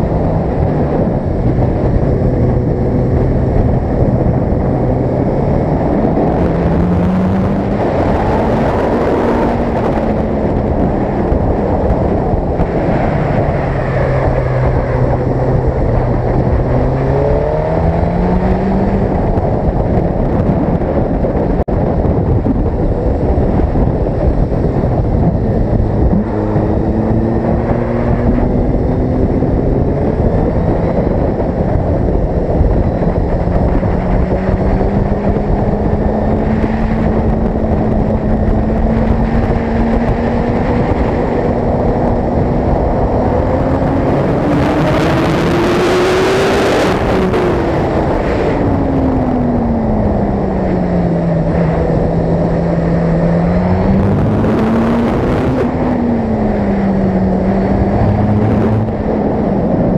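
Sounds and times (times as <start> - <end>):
motorcycle engine: 0.0 - 59.9
wind rush: 0.0 - 59.9.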